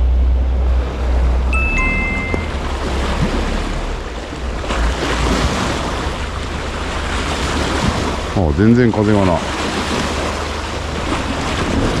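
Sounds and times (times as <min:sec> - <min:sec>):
waves washing over rocks: 0:01.5 - 0:12.0.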